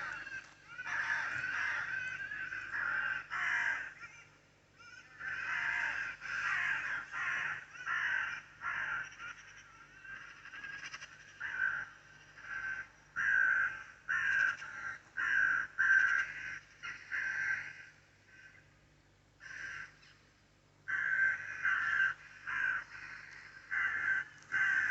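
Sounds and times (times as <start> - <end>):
bird cawing: 0.0 - 18.8, 19.4 - 20.3, 20.9 - 24.9.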